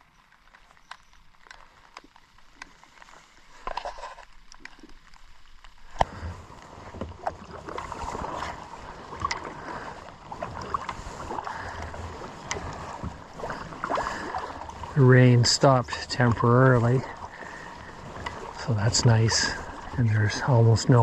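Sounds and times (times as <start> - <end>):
paddle splashing and dripping: 0.0 - 21.0.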